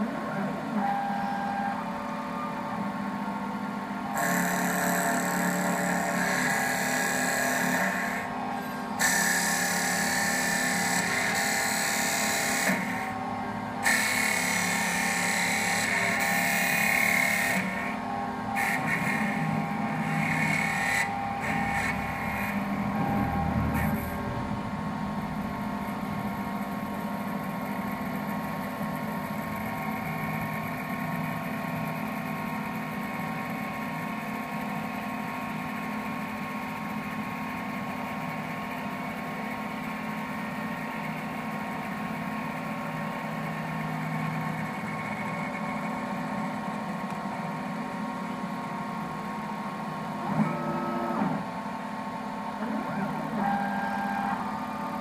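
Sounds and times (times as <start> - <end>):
wood lathe running: 1.8 - 55.0.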